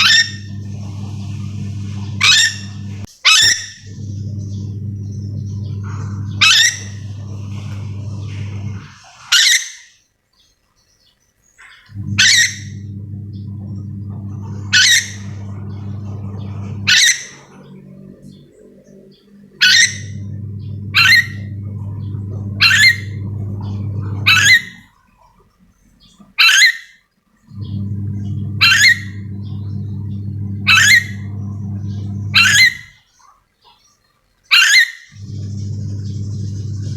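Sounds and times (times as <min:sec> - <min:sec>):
steady low hum: 0:00.0 - 0:09.3, 0:11.9 - 0:24.9, 0:27.4 - 0:33.0, 0:35.2 - 0:36.9.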